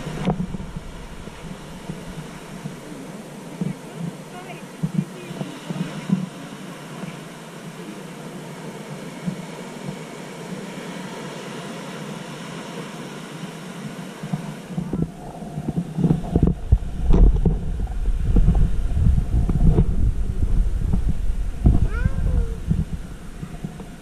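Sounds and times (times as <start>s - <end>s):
ocean surf: 0.0s - 24.0s
wind buffeting microphone: 0.0s - 24.0s.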